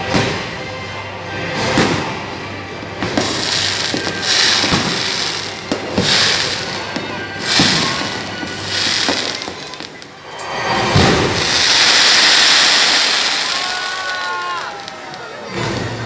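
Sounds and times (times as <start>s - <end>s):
fireworks booming: 0.0s - 16.0s
fireworks hissing crackle: 0.0s - 16.0s.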